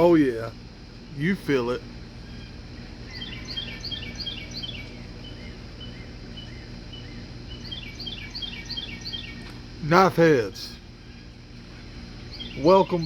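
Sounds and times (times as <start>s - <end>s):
steady low hum: 0.0s - 13.0s
songbird chirping: 1.0s - 13.0s.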